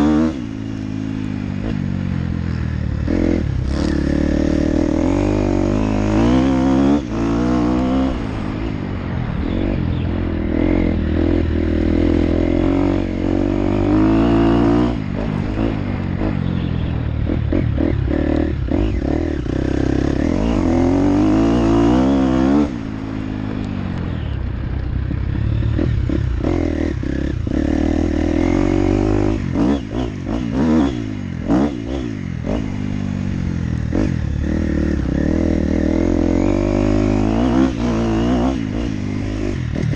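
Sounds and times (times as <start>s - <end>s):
dirt bike engine revving: 0.0s - 23.7s, 25.1s - 39.9s.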